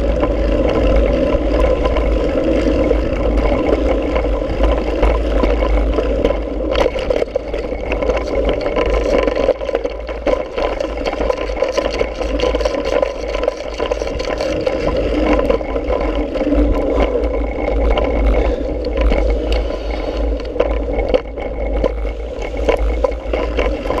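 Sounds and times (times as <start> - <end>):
bike rattling over bumps: 0.0 - 24.0
tyres crunching on gravel: 0.0 - 24.0
wind rumble on microphone: 0.0 - 24.0.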